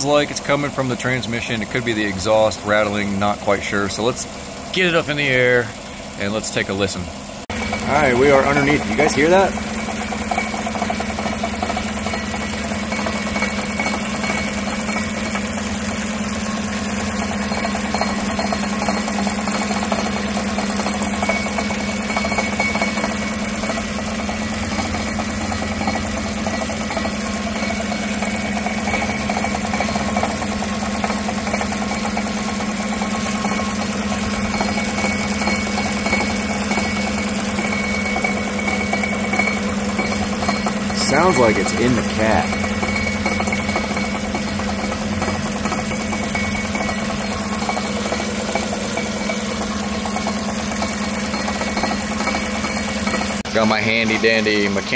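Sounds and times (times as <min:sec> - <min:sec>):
truck engine idling: 0:00.0 - 0:54.9
rattle under truck: 0:07.4 - 0:54.4.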